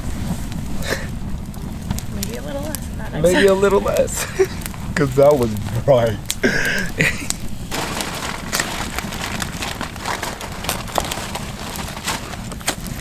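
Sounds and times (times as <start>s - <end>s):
campfire crackling: 0.0s - 13.0s
fire snaps and pops: 0.0s - 13.0s
low rumble of flames: 0.0s - 13.0s.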